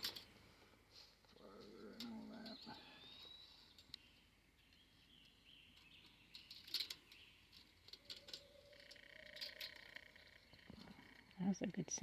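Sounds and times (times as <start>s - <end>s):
faint rural outdoor ambience: 0.0s - 12.0s
high wildlife chirps and clicks: 1.6s - 12.0s.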